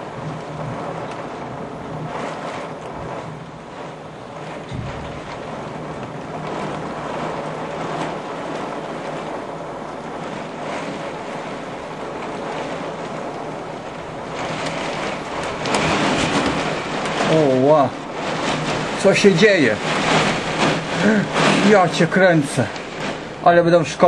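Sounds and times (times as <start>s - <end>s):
heavy rain: 0.0s - 24.0s
storm wind: 0.0s - 24.0s.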